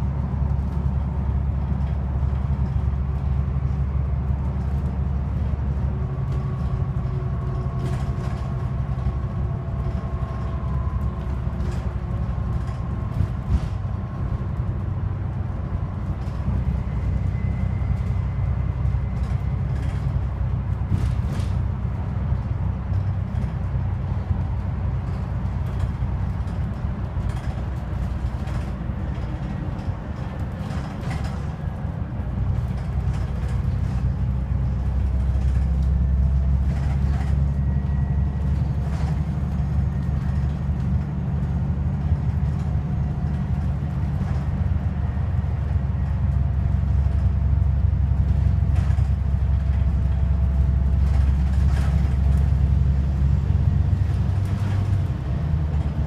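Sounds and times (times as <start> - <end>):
bus engine and road drone: 0.0 - 56.0.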